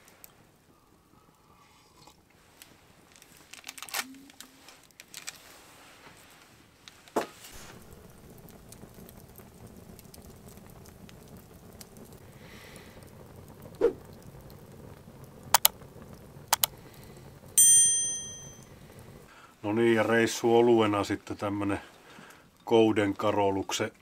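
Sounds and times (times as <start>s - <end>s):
fire pops: 0.0s - 1.4s, 2.1s - 22.7s
campfire crackling: 0.0s - 24.0s.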